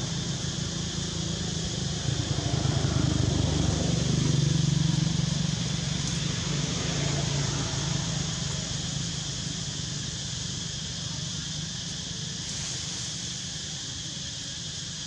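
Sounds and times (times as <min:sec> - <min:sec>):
vehicle engine hum: 0:00.0 - 0:14.9
steady high hiss: 0:00.0 - 0:15.0.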